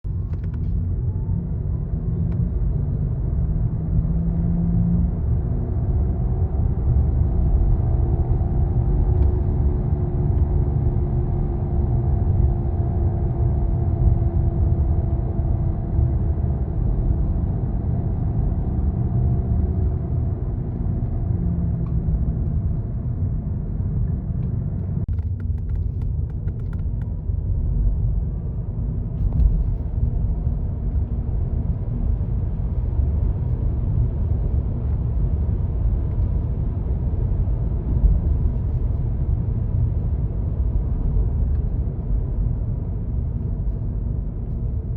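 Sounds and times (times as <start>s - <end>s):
electric car low rumble: 0.0s - 44.9s.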